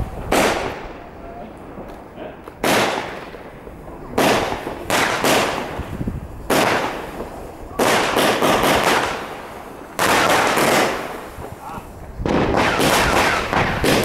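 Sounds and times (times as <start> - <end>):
fireworks bangs echoing: 0.0 - 14.0
rapid small firework reports: 0.0 - 14.0.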